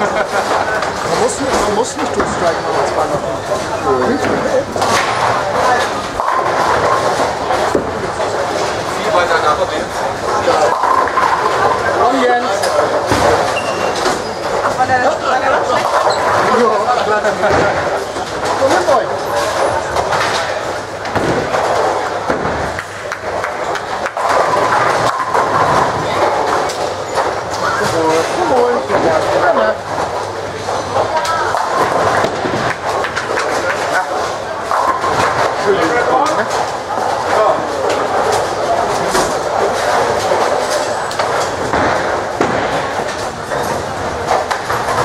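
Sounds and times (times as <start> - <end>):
bowling balls rolling: 0.0 - 45.0
bowling pins clattering: 0.0 - 45.0.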